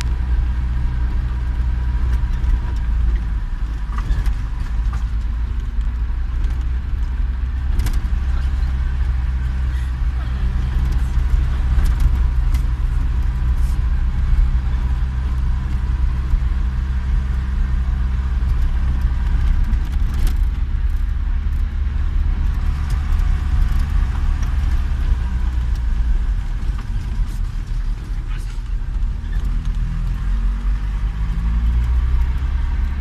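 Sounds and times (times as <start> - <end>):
tyre noise on dirt road: 0.0 - 33.0
vehicle engine rumble: 0.0 - 33.0.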